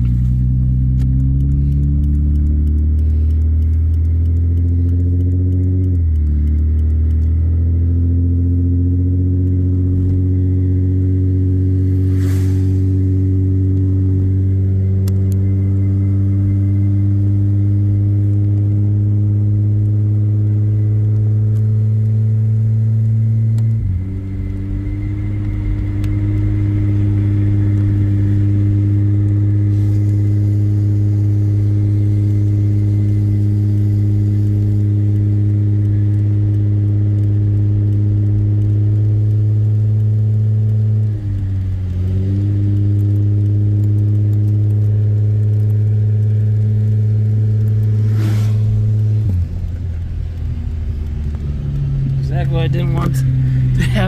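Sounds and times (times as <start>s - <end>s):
car engine droning in cabin: 0.0s - 54.0s.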